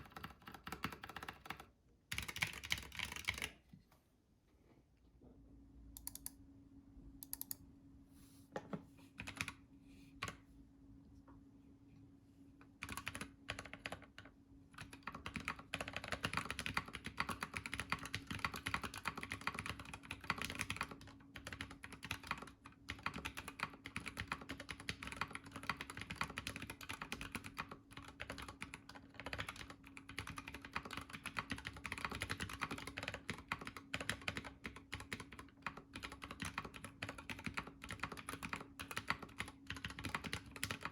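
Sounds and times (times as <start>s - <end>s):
keyboard typing: 0.0s - 3.6s, 6.0s - 6.4s, 7.2s - 7.6s, 9.2s - 9.6s, 12.8s - 40.9s.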